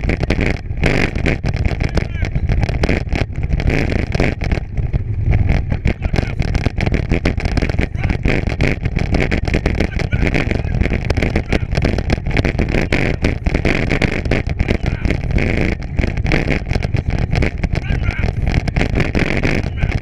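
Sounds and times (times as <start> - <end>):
bicycle rumbling and rattling: 0.0 - 20.0
wind buffeting microphone: 0.0 - 20.0.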